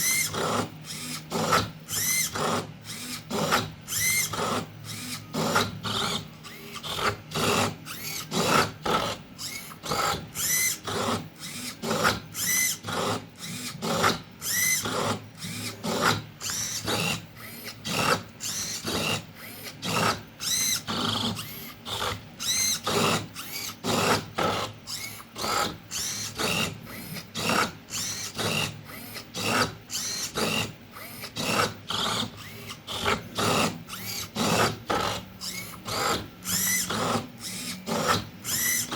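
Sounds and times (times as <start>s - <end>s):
servo motors whirring: 0.0s - 38.9s.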